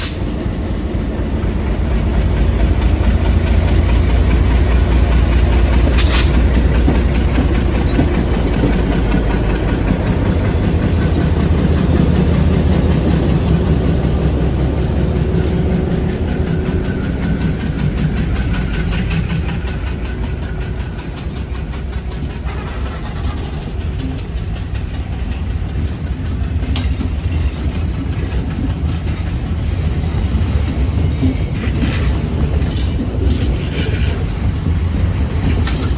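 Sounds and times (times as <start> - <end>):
train rumbling on rails: 0.0 - 35.9.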